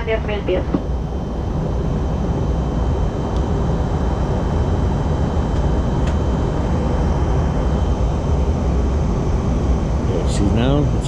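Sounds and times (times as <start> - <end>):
airliner cabin engine rush: 0.0 - 11.0.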